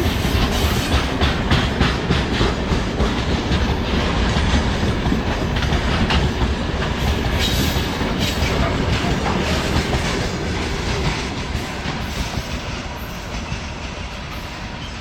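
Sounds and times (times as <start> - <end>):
freight train wheels clacking: 0.0 - 15.0
train rumble: 0.0 - 15.0.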